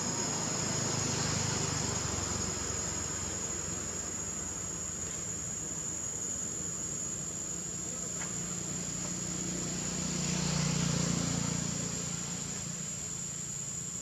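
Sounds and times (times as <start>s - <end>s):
distant vehicle engine hum: 0.0s - 14.0s.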